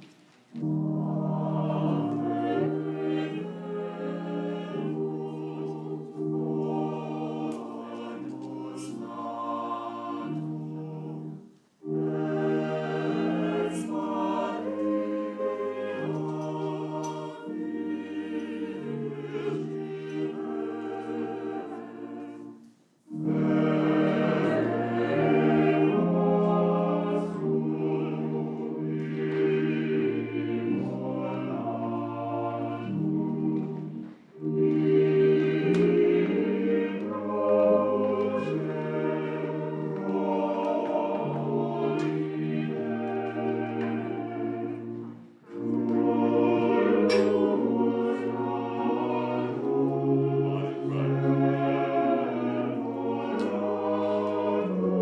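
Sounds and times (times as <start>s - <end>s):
church choir singing a hymn: 0.0s - 55.0s.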